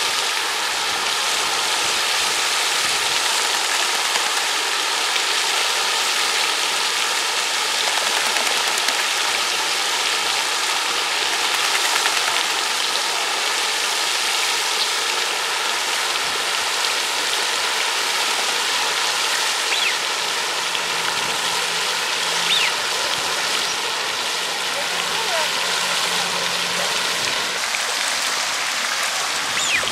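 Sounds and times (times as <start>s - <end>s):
rushing water: 0.0s - 29.9s.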